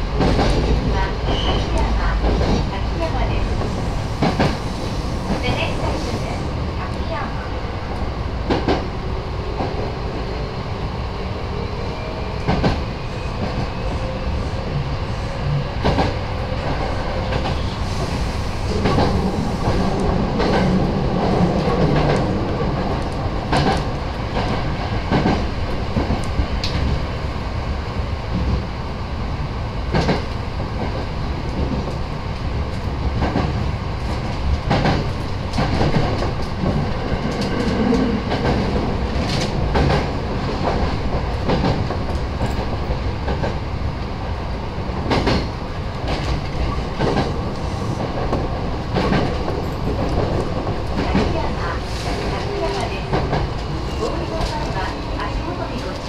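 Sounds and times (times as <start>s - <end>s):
rail joint clicks: 0.0s - 7.1s, 7.9s - 9.9s, 11.9s - 14.2s, 15.4s - 27.2s, 29.8s - 56.0s
train wheels rumbling on rail: 0.0s - 56.0s.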